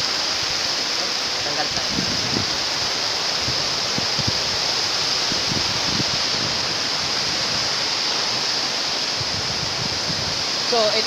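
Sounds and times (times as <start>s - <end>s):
water rushing over weir: 0.0s - 11.0s.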